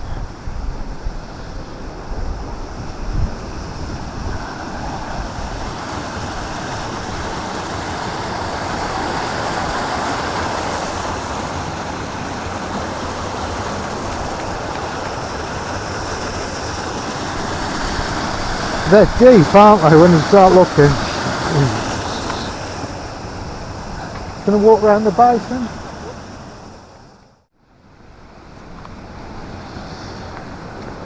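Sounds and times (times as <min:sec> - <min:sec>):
running water rushing: 0:00.0 - 0:27.2
wind gusting on microphone: 0:00.0 - 0:27.2.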